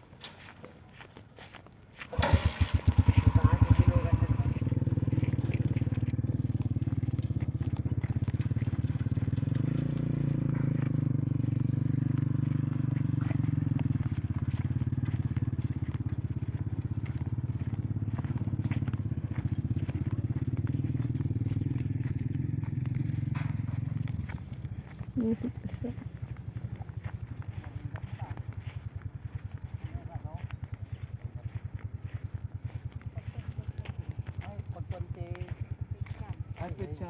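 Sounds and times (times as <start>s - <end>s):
vehicle engine running: 2.0s - 37.0s.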